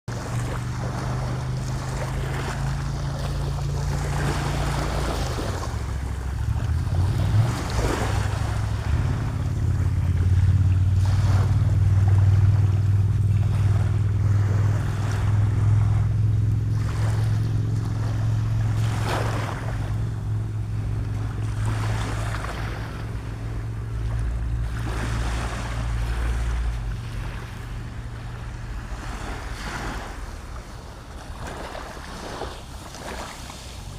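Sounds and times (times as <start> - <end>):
surf breaking on a beach: 0.1 - 33.9
wind rumbling on microphone: 0.1 - 33.9.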